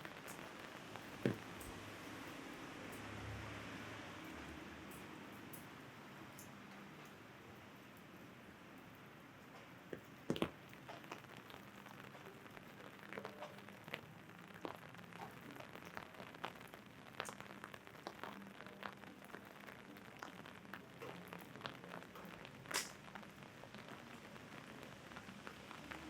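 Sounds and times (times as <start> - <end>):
raindrops tapping on an umbrella: 0.0 - 8.2, 8.8 - 26.0.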